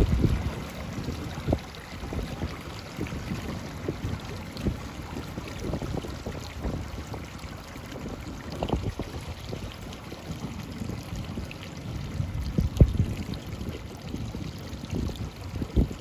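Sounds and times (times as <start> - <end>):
low buffeting: 0.0 - 16.0
water splashing against boat hull: 0.0 - 16.0.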